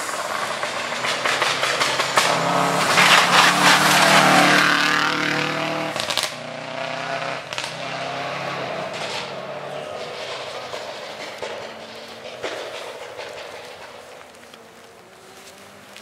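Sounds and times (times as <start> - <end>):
sharp crack: 0.0 - 6.5, 7.4 - 7.9, 8.8 - 15.0
rally car engine passing by: 0.0 - 16.0.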